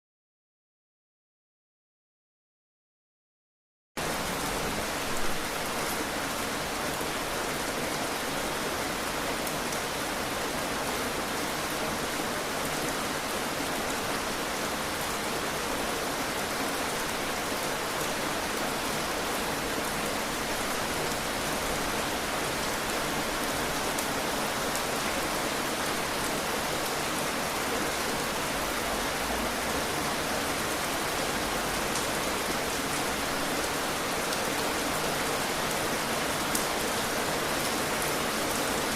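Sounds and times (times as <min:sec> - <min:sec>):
heavy rain: 0:04.0 - 0:38.9.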